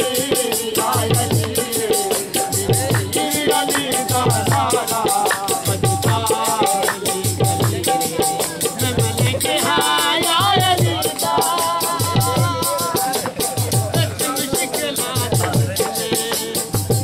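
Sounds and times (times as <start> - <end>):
dhol drum strokes: 0.0 - 17.0.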